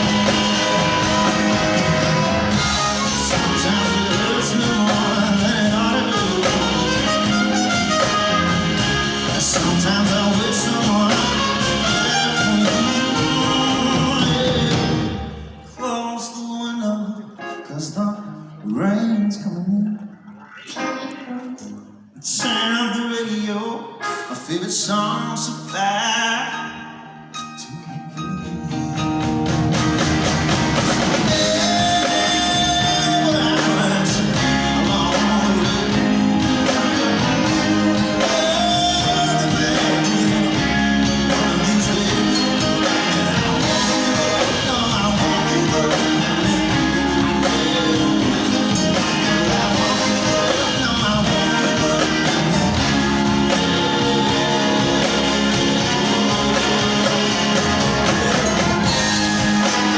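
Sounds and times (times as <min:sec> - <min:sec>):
drums: 0:00.0 - 0:15.8, 0:27.4 - 0:59.9
live rock band playing: 0:00.0 - 0:16.5, 0:20.4 - 0:23.4, 0:24.0 - 0:59.9
guitar: 0:00.0 - 0:59.9.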